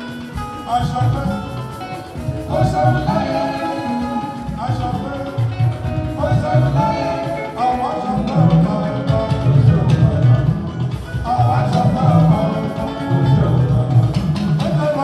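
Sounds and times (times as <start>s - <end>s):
band music: 0.0s - 15.0s
man singing: 0.0s - 15.0s.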